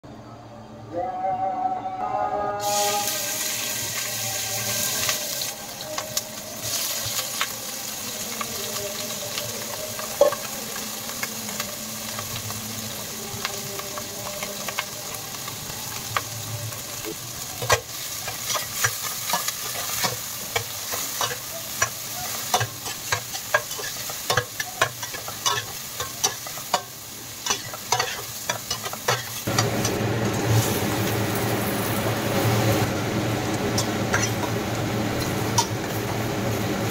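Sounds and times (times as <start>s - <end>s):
shrimp sizzling in hot oil: 2.6s - 36.9s.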